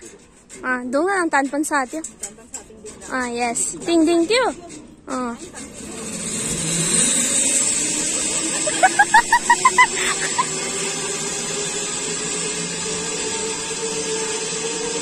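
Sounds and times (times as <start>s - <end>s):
zipline trolley whirring on cable: 0.0s - 15.0s.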